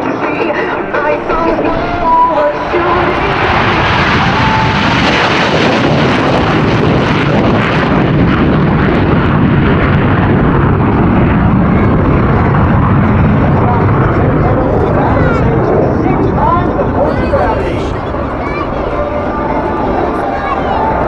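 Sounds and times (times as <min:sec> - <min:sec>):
jet aircraft engine roar: 0:00.0 - 0:21.0.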